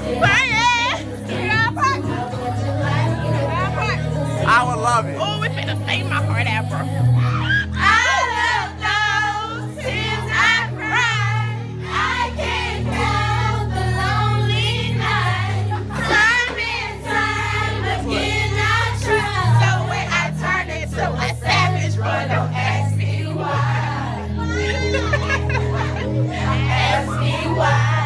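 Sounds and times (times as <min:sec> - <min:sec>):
music track with bass line: 0:00.0 - 0:28.0
young women singing together: 0:00.0 - 0:28.0.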